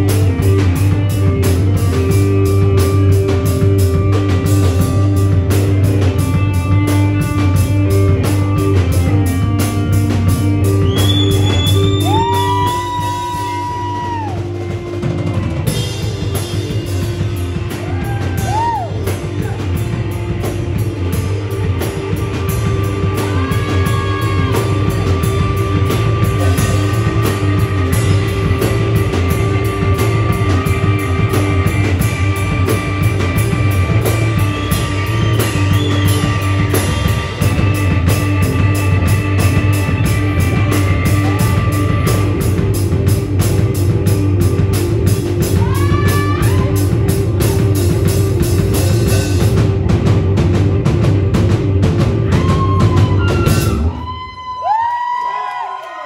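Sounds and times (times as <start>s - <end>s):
sliding lead guitar notes: 0.0s - 54.2s
live rock band playing: 0.0s - 54.8s.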